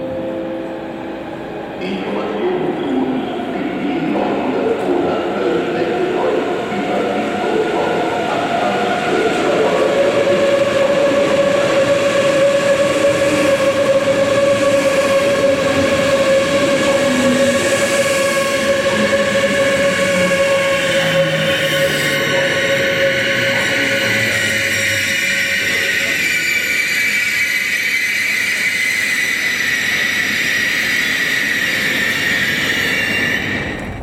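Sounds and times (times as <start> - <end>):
train running: 0.0 - 34.0.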